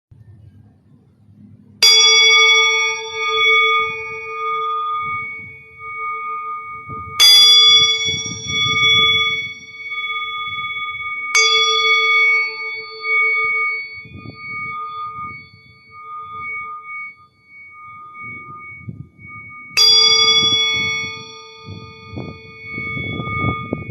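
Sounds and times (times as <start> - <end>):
metal singing bowl ringing: 1.5 - 23.9.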